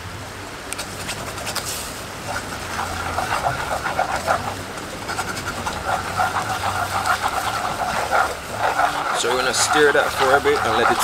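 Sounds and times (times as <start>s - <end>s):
sauce bubbling: 0.8s - 11.0s
wooden spatula scraping pan: 1.0s - 11.0s.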